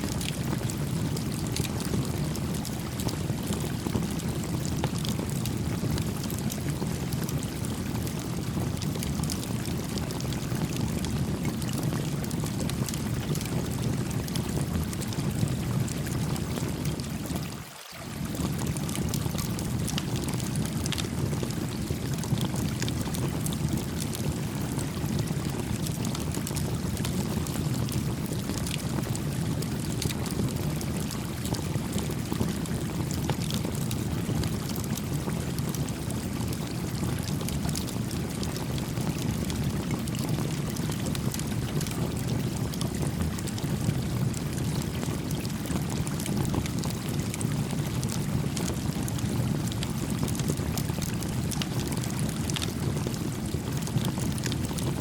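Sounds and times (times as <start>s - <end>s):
campfire crackling and popping: 0.1s - 17.4s, 18.2s - 55.0s.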